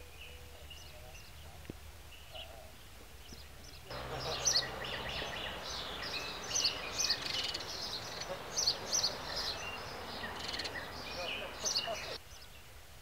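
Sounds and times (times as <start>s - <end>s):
birds chirping and calling: 0.0s - 12.7s
steady outdoor hiss: 0.0s - 13.0s.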